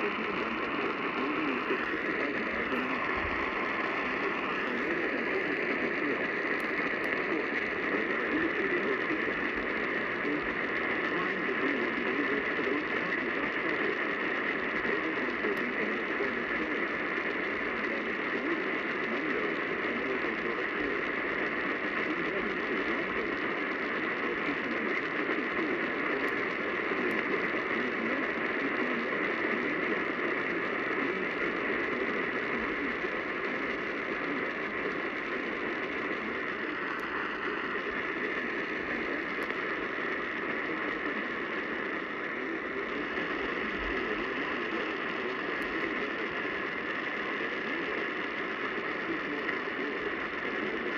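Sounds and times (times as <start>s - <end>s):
radio static hiss: 0.0s - 50.9s.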